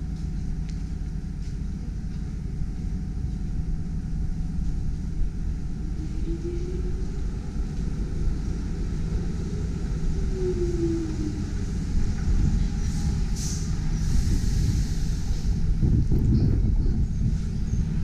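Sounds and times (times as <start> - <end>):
streetcar rumbling on rails: 0.0 - 18.0
streetcar whine: 0.0 - 18.0.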